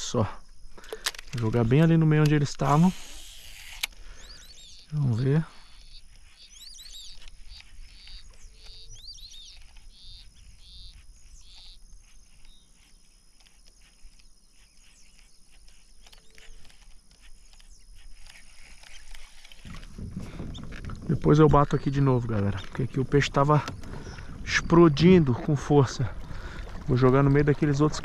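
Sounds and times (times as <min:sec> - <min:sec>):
faint outdoor background noise: 0:00.0 - 0:28.0
birds chirping: 0:03.9 - 0:28.0.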